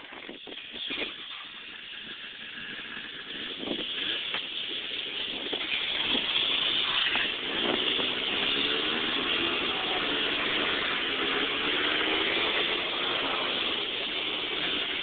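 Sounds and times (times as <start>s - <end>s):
snowmobile engine running: 0.0s - 15.0s
hiss: 0.1s - 15.0s.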